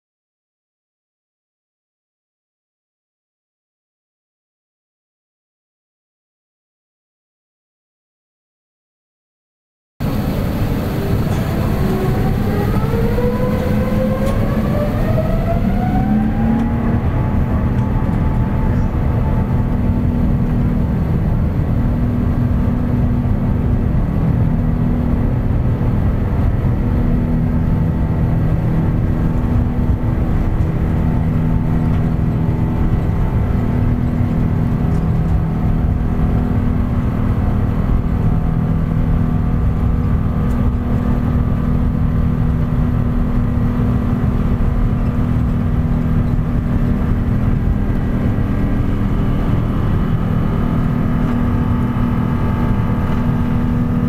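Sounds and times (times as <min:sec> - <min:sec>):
jet engine whine: 0:10.0 - 0:54.0
loud constant engine rumble: 0:10.0 - 0:54.0.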